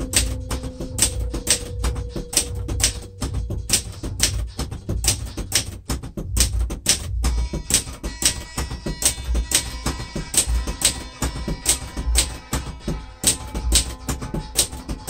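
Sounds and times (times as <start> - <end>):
typewriter keys clacking: 0.0 - 15.0.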